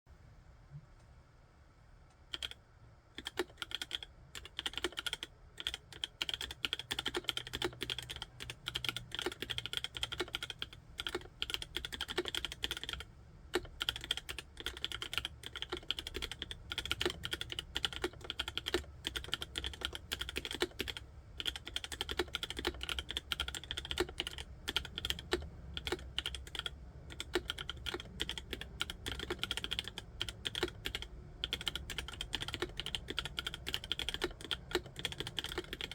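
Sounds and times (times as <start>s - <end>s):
fast typing on mechanical keyboard: 2.3s - 2.6s, 3.2s - 35.9s.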